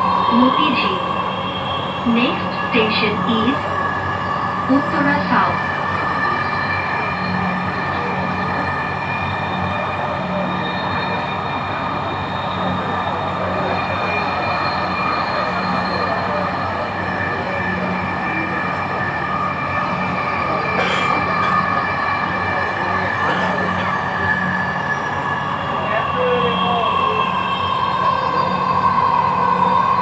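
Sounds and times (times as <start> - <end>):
metro train running: 0.0 - 30.0.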